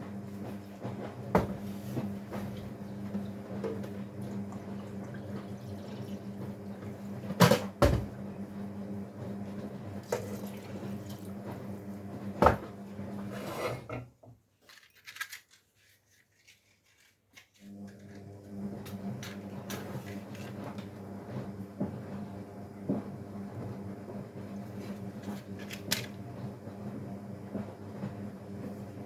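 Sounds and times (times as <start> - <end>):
washing machine humming: 0.0 - 14.0, 17.6 - 29.0.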